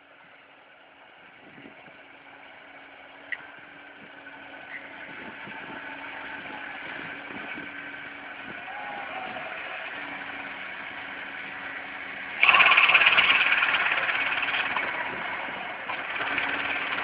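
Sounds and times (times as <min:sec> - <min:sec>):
tractor mower running: 0:00.0 - 0:17.0.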